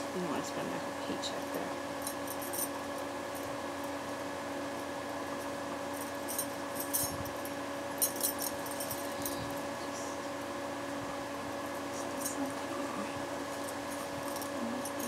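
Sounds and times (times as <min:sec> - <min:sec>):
steady electric hum: 0:00.0 - 0:15.0.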